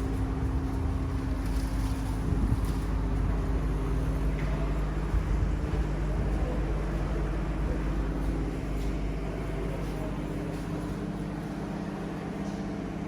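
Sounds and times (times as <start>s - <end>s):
train rumbling: 0.0s - 10.5s.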